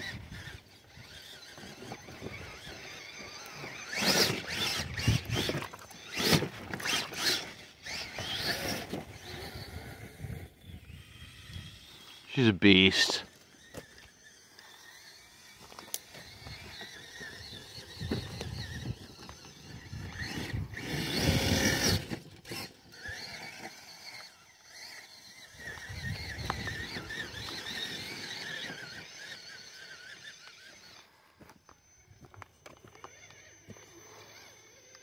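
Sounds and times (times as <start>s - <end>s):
electric motor and gearbox whining: 0.0s - 35.0s.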